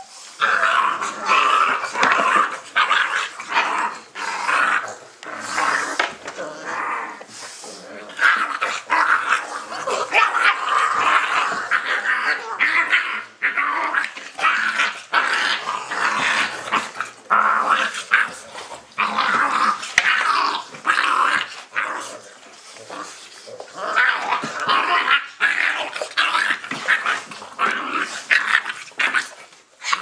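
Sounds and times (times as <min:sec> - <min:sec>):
puppies growling: 0:00.0 - 0:30.0.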